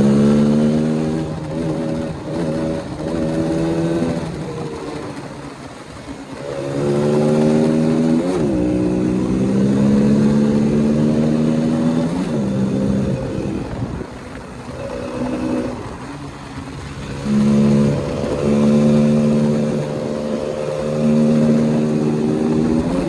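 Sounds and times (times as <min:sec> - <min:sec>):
motorcycle engine pulling under throttle: 0:00.0 - 0:23.0.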